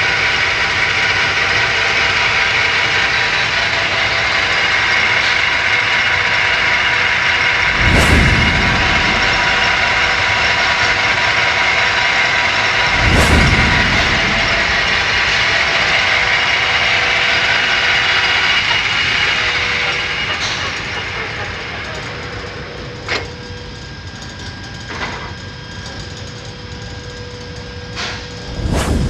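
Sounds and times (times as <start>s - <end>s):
lathe gearbox mechanical whine: 0.0s - 28.6s.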